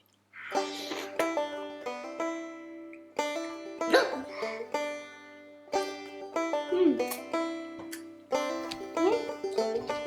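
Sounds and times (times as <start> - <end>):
plucked banjo music: 0.5 - 10.0.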